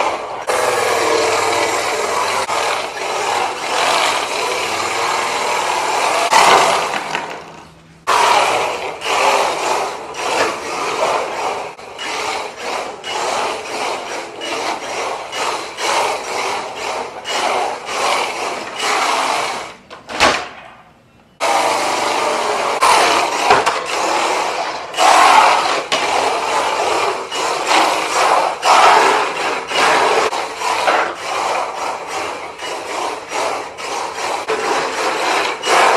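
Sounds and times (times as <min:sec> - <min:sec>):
toy car tyres scrubbing: 0:00.0 - 0:07.4, 0:08.0 - 0:19.8, 0:21.4 - 0:35.9.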